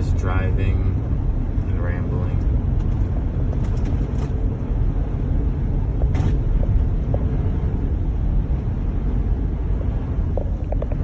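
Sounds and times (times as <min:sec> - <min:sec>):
road and tyre rumble in car: 0:00.0 - 0:11.0.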